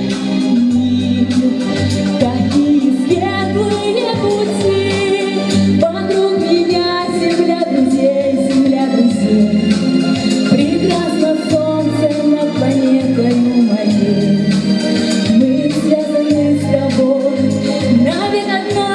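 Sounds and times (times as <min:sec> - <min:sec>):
keyboard accompaniment with beat: 0:00.0 - 0:18.9
woman singing: 0:00.0 - 0:18.9.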